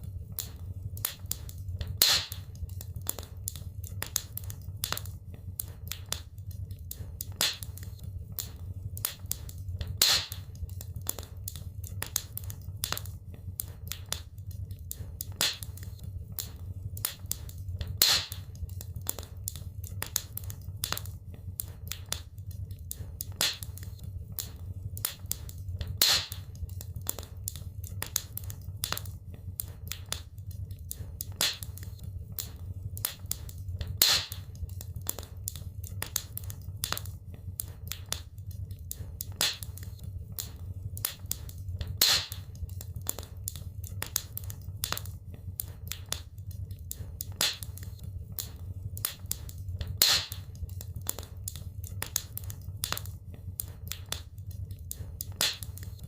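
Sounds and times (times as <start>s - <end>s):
low steady rumble: 0.0s - 55.4s
wood fire crackling: 0.0s - 56.0s.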